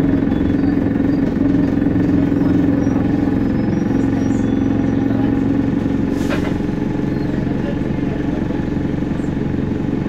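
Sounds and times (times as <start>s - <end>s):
bus engine droning: 0.0s - 10.0s.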